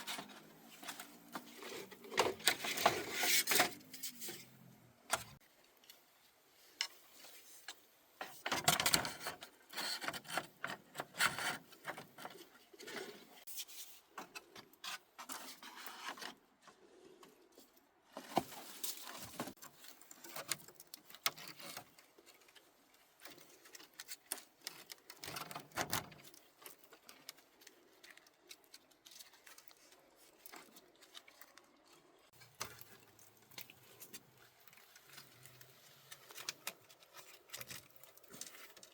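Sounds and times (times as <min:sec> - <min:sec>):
rustling and scraping: 0:00.0 - 0:38.9.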